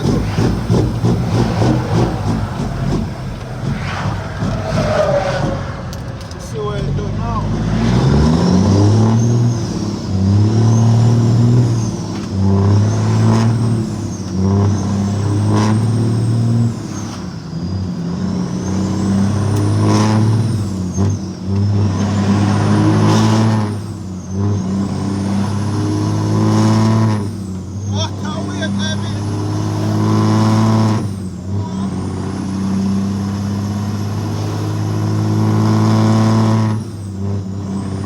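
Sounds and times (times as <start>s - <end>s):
truck diesel engine pulling: 0.0s - 38.0s.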